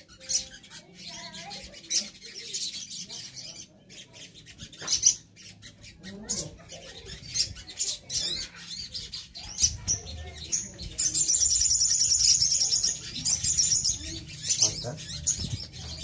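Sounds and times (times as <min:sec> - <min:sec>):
bird trilling: 0:00.0 - 0:16.0
birds chirping: 0:00.0 - 0:16.0.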